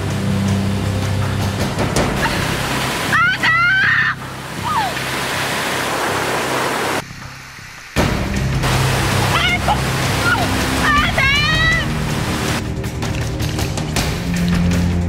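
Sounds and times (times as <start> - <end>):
waterfall rushing over rock: 0.0 - 12.6.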